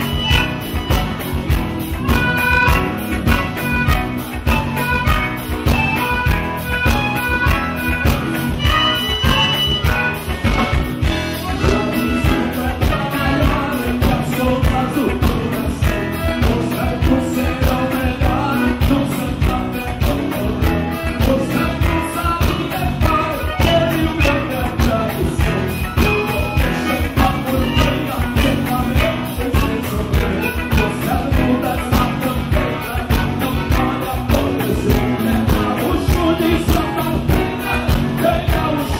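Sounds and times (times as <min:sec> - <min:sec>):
accordion: 0:00.0 - 0:38.9
electric bass: 0:00.0 - 0:38.9
person singing: 0:01.9 - 0:38.9.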